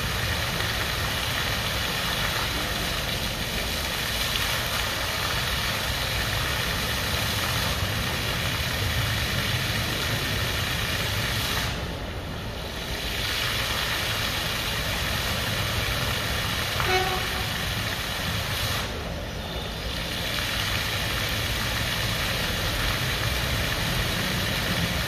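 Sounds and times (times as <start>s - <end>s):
fountain water splashing on paving: 0.0s - 25.0s.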